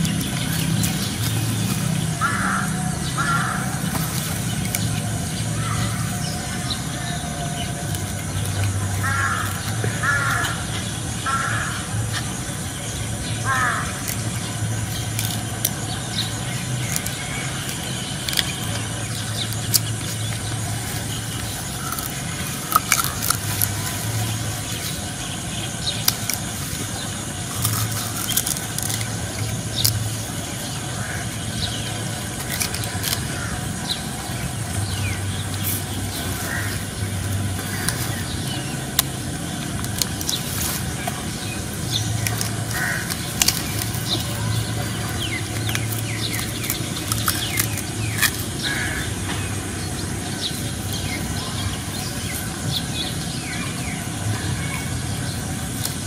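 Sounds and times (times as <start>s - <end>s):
steady low rumble: 0.0s - 56.0s
sugar cane crunching: 0.0s - 56.0s.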